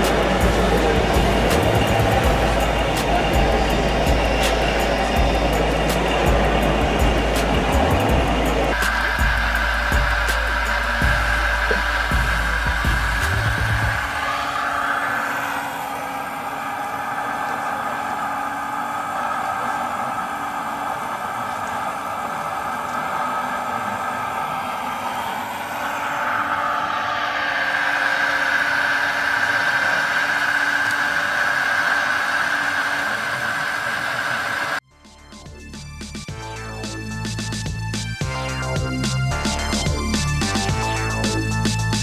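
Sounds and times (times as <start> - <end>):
model excavator motor whine: 0.0 - 34.8.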